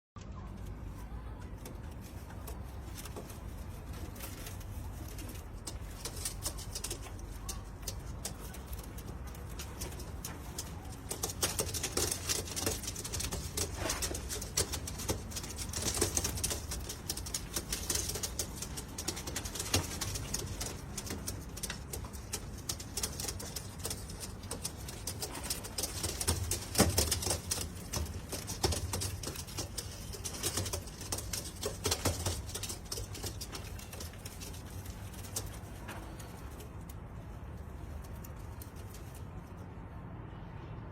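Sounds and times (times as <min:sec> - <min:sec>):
clicks and rustling: 0:00.2 - 0:39.8.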